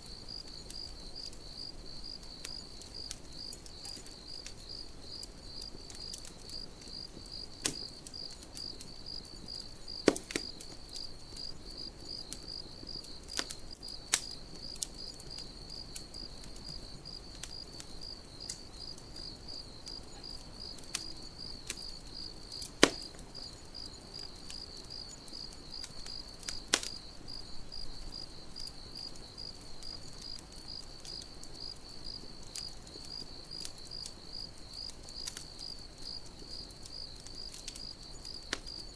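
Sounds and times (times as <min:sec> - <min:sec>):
burning wood popping: 0:00.0 - 0:38.9
campfire crackling: 0:00.0 - 0:38.9
crickets chirping: 0:00.0 - 0:38.9.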